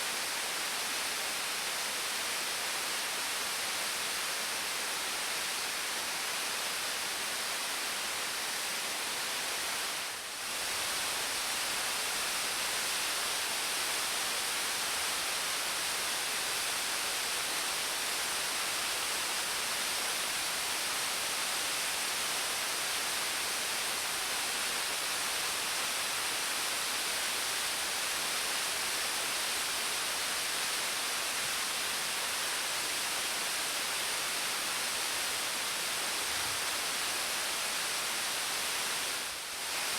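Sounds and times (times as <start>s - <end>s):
waterfall rushing hiss: 0.0s - 39.9s.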